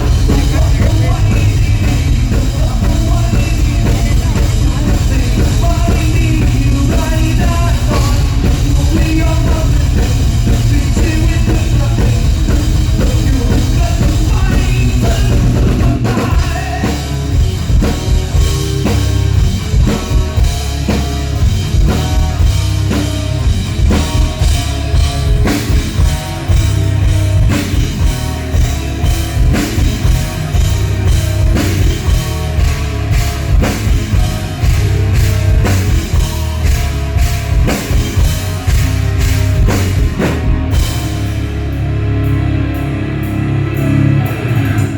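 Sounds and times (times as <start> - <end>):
rock music with drum kit: 0.0 - 44.9.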